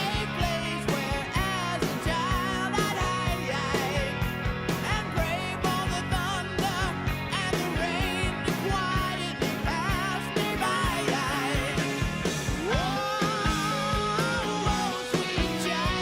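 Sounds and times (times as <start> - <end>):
song with singing over drums: 0.0 - 16.0.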